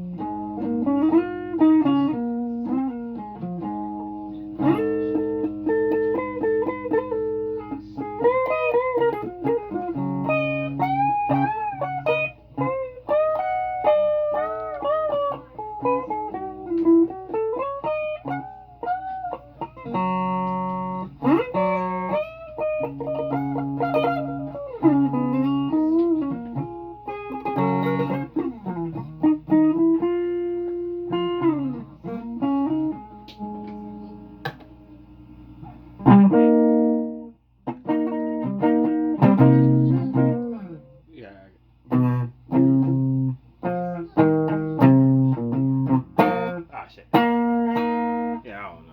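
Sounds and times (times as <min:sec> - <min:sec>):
guitar notes with pitch bends: 0:00.0 - 0:34.6, 0:36.0 - 0:48.9
guitar chords strummed: 0:00.0 - 0:34.8, 0:36.0 - 0:48.9.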